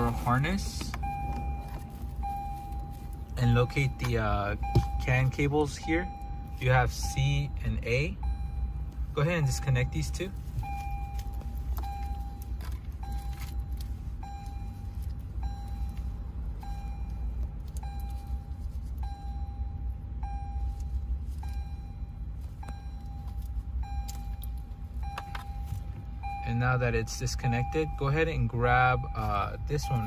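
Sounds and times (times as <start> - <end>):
electronic warning chime beeping: 0.0 - 30.0
low steady hum: 0.0 - 30.0.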